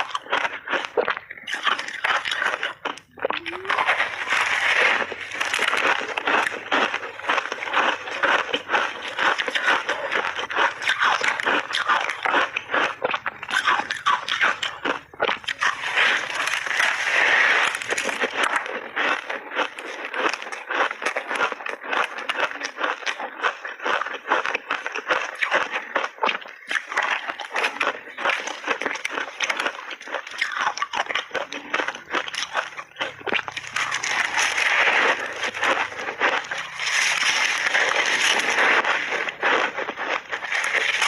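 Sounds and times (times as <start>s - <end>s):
ice being chewed: 0.0s - 41.0s.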